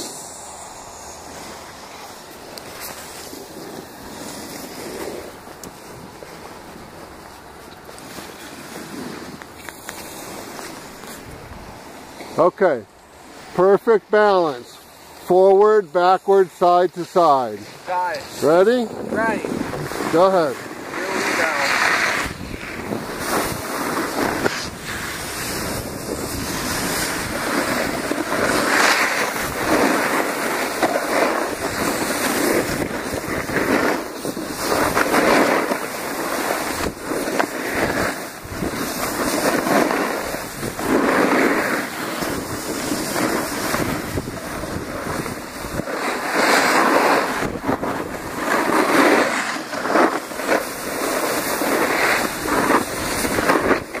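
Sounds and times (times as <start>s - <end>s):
edges scraping across packed snow: 0.0s - 54.0s
wind rushing over microphone: 0.0s - 54.0s.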